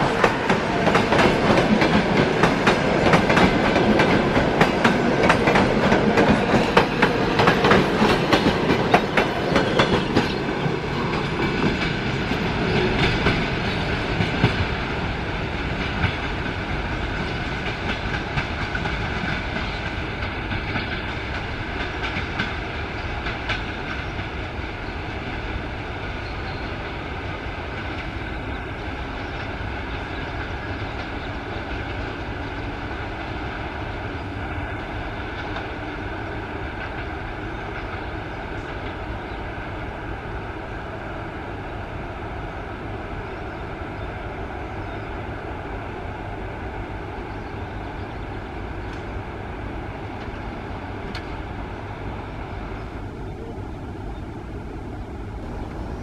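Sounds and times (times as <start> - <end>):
train running past: 0.0 - 56.0.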